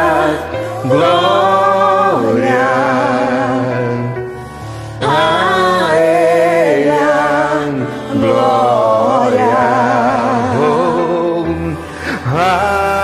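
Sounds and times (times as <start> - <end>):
gospel backing track: 0.0 - 13.0
person singing long wordless notes: 0.0 - 13.0.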